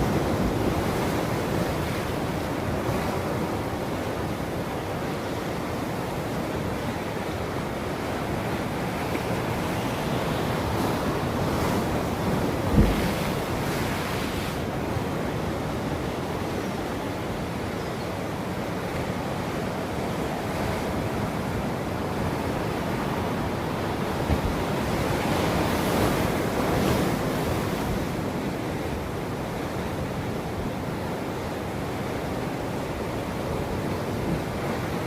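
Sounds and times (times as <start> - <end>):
ocean waves washing on shore: 0.0 - 35.0.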